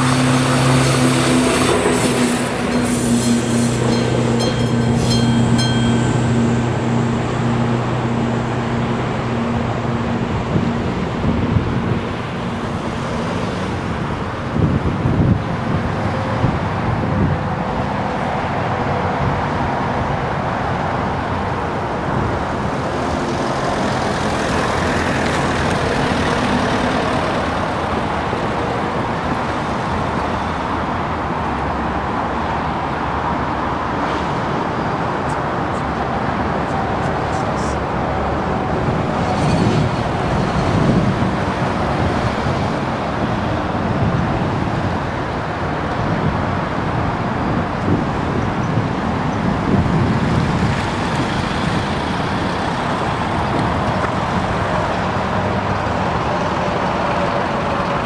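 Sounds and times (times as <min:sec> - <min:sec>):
train rolling rumble: 0:00.0 - 0:58.0.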